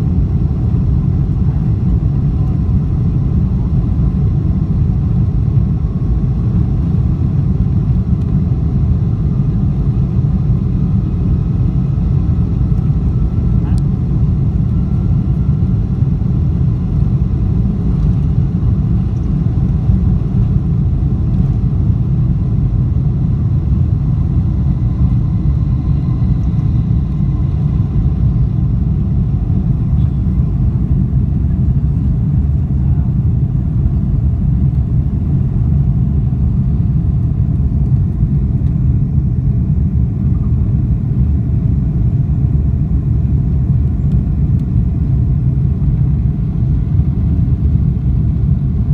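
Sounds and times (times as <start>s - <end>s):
jet engines rumbling in cabin: 0.0s - 48.9s.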